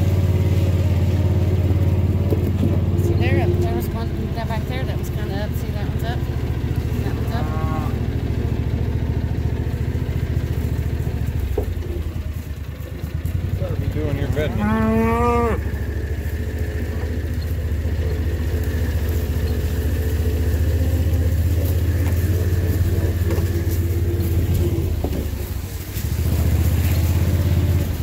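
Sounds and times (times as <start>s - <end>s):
small vehicle engine running: 0.0s - 28.0s.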